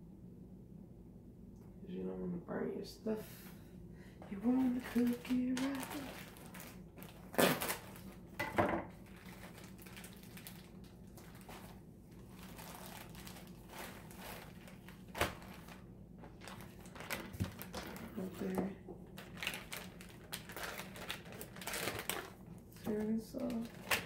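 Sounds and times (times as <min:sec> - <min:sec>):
plastic packaging crinkling: 0:04.3 - 0:24.0.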